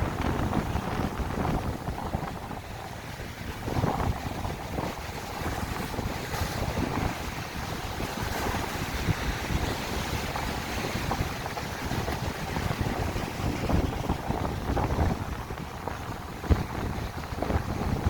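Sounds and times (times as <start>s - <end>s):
waves breaking on shore: 0.0s - 18.0s
wind buffeting microphone: 0.0s - 18.0s.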